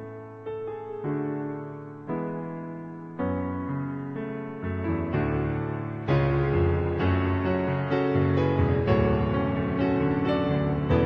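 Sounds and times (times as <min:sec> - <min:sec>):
slow tender piano music: 0:00.0 - 0:11.0.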